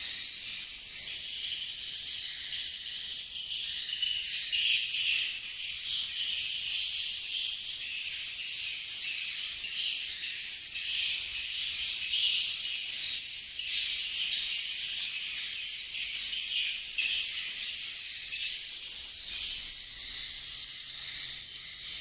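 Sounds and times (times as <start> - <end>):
birds chirping and twittering: 0.0 - 22.0
thin steady high tone: 0.0 - 22.0.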